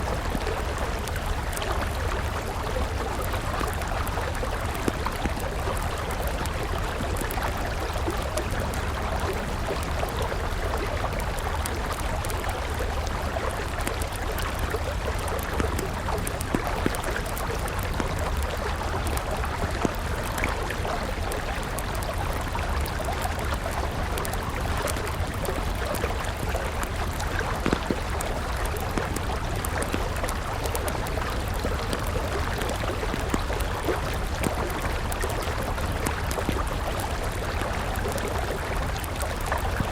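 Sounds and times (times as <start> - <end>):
campfire crackling: 0.0 - 39.9
river water flowing: 0.0 - 39.9.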